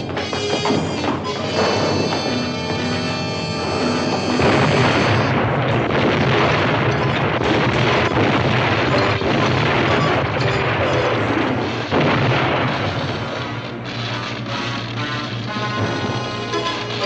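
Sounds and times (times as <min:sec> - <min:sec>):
explosion bangs: 0:00.0 - 0:17.0
fire burning and crackling: 0:00.0 - 0:17.0.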